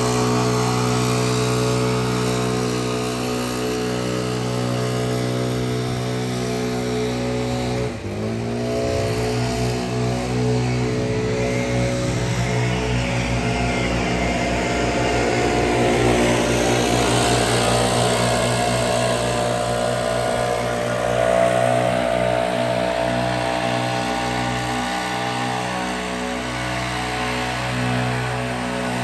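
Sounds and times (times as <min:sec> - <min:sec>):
leaf blowers rushing: 0:00.0 - 0:29.0
mower engine running: 0:00.0 - 0:29.0.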